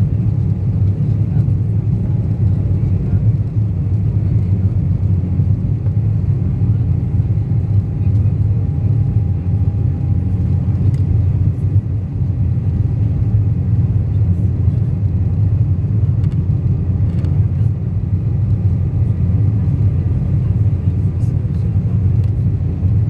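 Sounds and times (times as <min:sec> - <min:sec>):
jet engine and airflow roar: 0:00.0 - 0:23.0.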